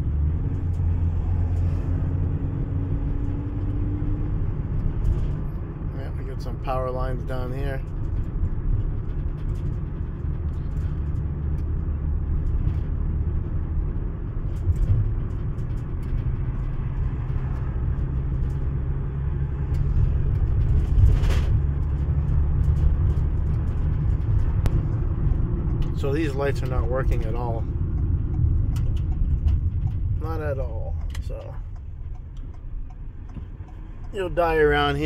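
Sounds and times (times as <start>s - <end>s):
road and engine rumble in vehicle: 0.0s - 35.0s.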